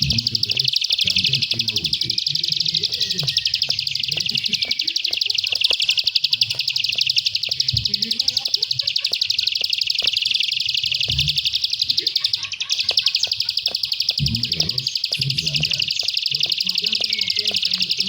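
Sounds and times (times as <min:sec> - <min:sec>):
bird chattering trill: 0:00.0 - 0:18.0.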